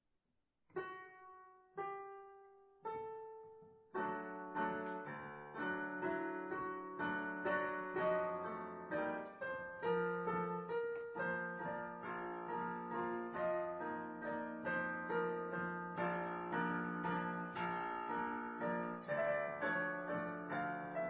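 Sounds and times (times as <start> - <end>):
digital piano melody over chords: 0.7 - 21.0.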